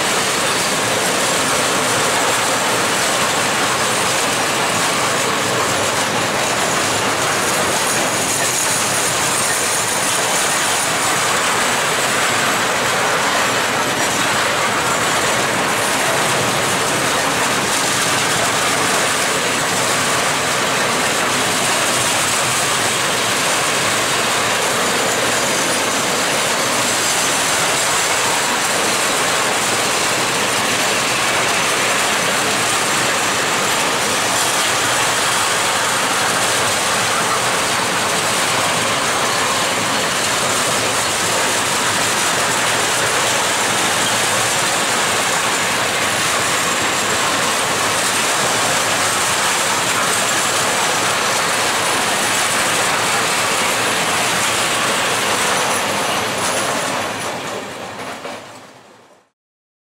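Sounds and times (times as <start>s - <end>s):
freight train wheels on rails: 0.0s - 59.3s.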